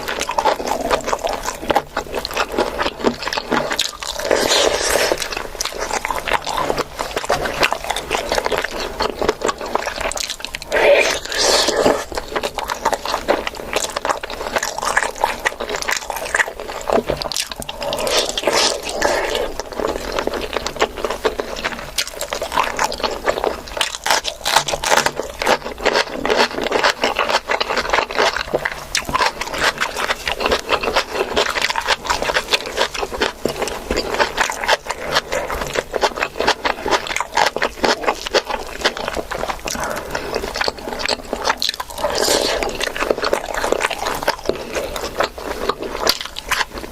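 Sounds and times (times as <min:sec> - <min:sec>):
person chewing with wet smacking: 0:00.0 - 0:46.9.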